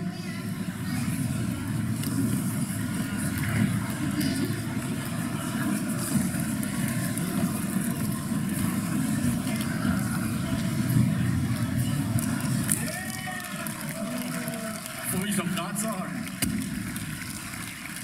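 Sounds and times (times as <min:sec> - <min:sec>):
convention hall low rumble: 0:00.0 - 0:18.0.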